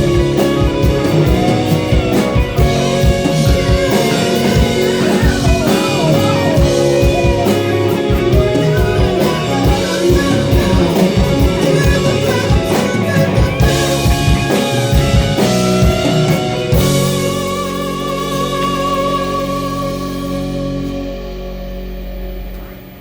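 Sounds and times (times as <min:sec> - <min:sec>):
drum kit: 0:00.0 - 0:22.9
electric guitar: 0:00.0 - 0:23.0.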